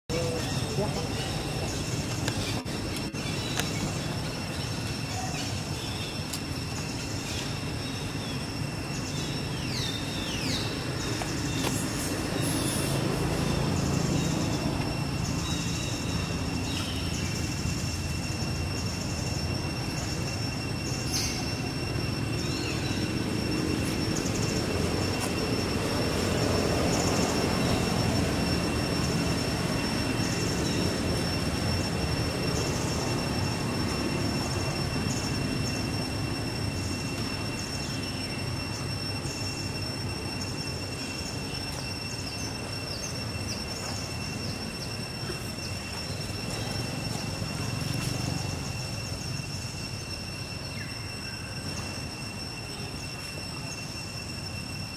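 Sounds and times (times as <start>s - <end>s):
high-pitched whine: 0.1s - 54.9s.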